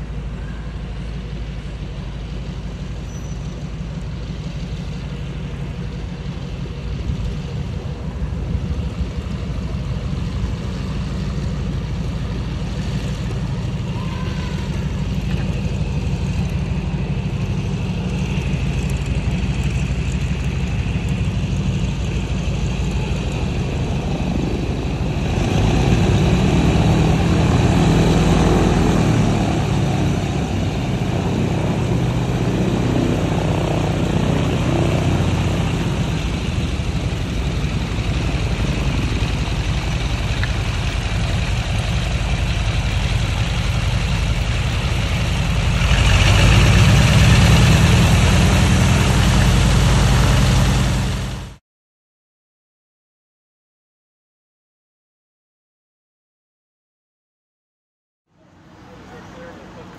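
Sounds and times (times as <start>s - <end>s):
biplane radial engine running: 0.0s - 51.6s, 58.4s - 59.9s.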